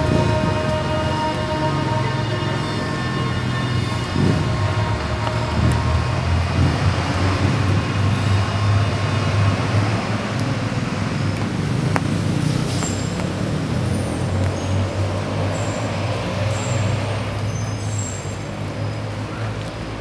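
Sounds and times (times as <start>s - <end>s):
heavy vehicle engine running: 0.0s - 20.0s
road traffic rumble: 0.0s - 20.0s.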